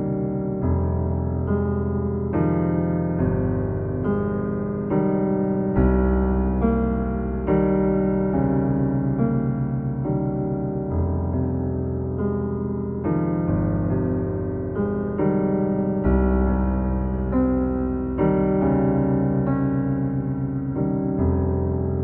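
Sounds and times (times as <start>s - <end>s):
piano chords with deep bass: 0.0s - 22.0s.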